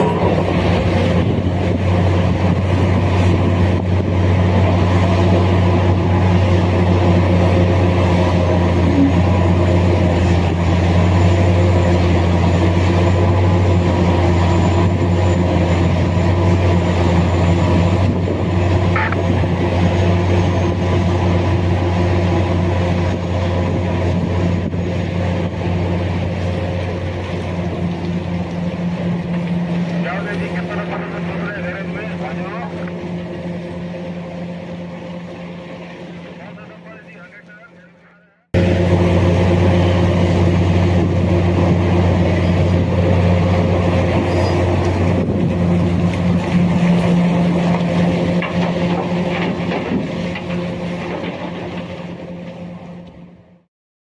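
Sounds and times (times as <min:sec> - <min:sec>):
large diesel engine droning: 0:00.0 - 0:53.7.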